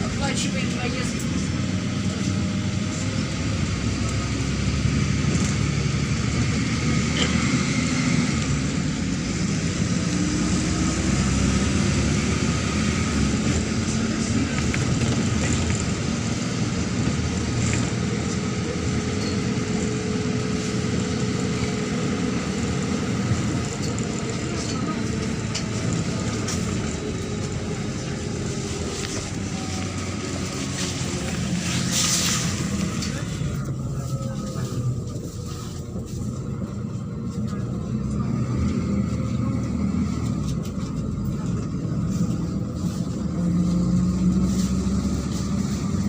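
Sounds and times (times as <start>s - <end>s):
bus engine and road noise: 0.0s - 46.0s.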